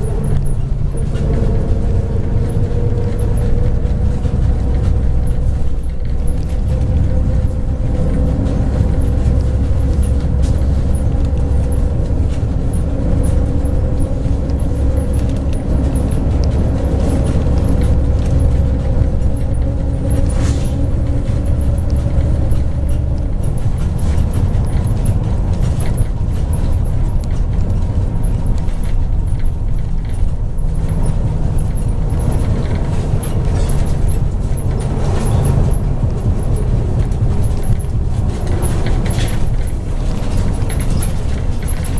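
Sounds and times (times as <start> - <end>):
bus engine and road drone: 0.0 - 41.9.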